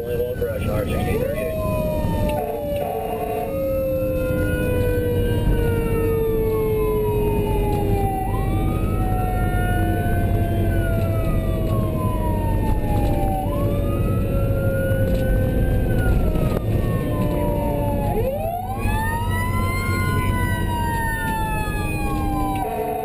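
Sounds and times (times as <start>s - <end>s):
lower siren tone: 0.0s - 23.0s
road noise: 0.0s - 23.0s
siren wailing: 0.0s - 23.0s
vehicle engine rumble: 0.0s - 23.0s.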